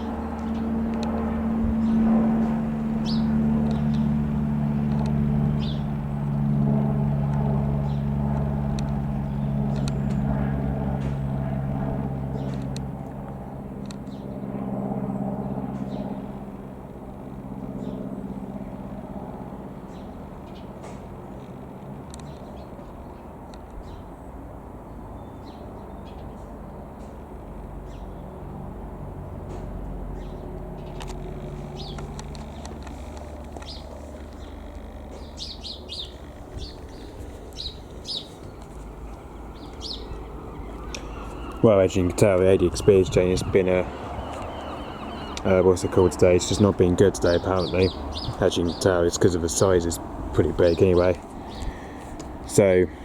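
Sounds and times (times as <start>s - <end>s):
small birds chirping: 0.0s - 2.1s, 2.8s - 6.4s, 7.0s - 11.3s, 15.2s - 16.3s, 17.6s - 18.2s, 19.8s - 27.2s, 27.8s - 28.5s, 30.0s - 53.0s
propeller plane droning overhead: 0.0s - 53.0s.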